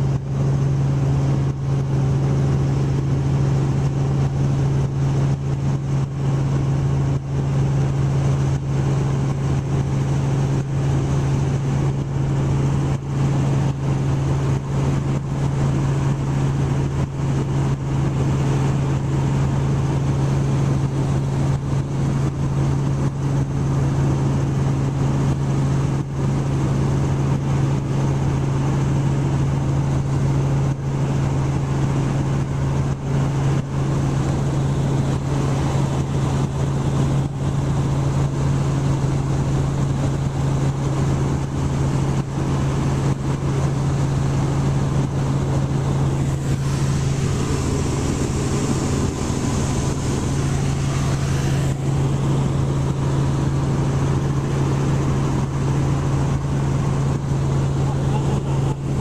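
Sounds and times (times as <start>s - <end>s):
helicopter engine and rotors droning: 0.0s - 59.0s.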